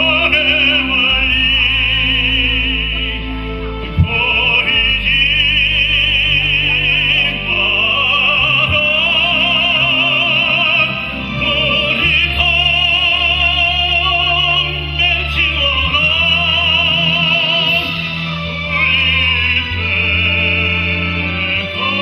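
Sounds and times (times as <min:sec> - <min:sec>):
classical solo singing: 0:00.0 - 0:22.0
instrumental accompaniment: 0:00.0 - 0:22.0.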